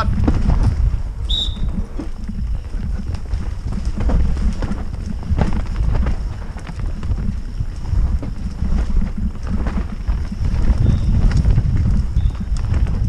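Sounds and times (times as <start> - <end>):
tyres rumbling on dirt: 0.0 - 13.0
wind buffeting microphone: 0.0 - 13.0.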